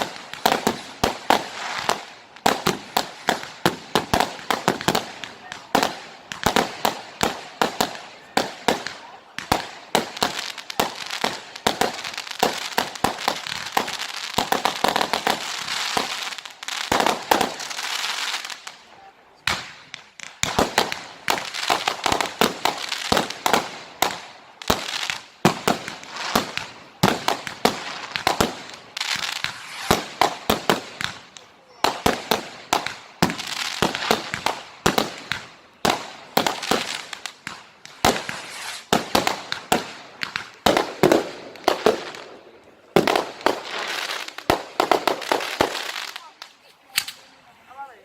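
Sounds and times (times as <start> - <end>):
firework bangs: 0.0 - 47.2
firework crackling hiss: 0.0 - 47.5.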